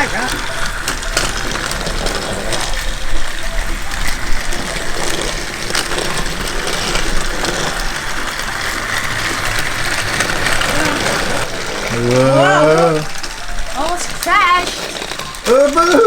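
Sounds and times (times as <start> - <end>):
toy train motor whir: 0.0 - 16.0
wheels clattering on plastic track: 0.0 - 16.0.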